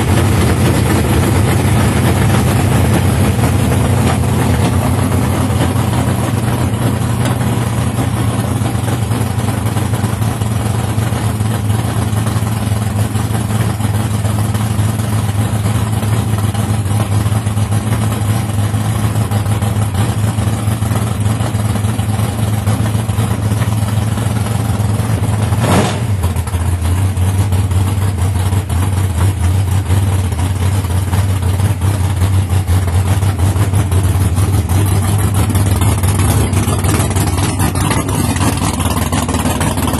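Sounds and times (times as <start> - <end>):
race car engine idling: 0.0 - 39.9.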